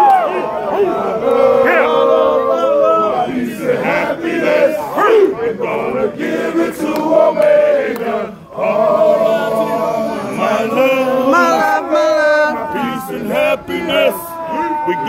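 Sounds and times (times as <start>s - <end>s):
men singing chant-like song: 0.0s - 15.0s.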